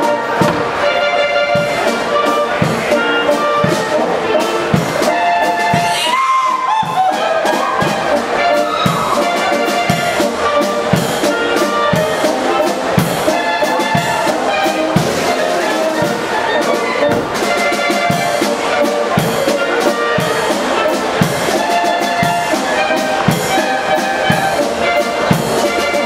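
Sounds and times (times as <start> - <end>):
brass band playing folk dance: 0.0 - 26.0.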